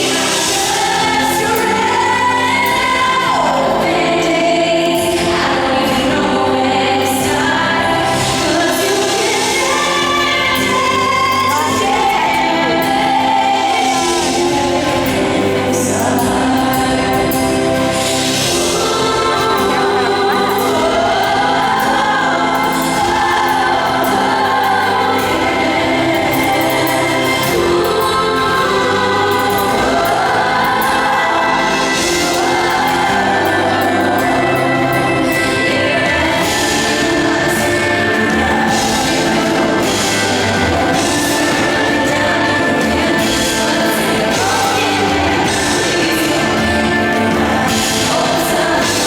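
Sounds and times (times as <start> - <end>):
sustained instrumental accompaniment: 0.0 - 49.0
woman singing a slow ballad: 0.0 - 49.0.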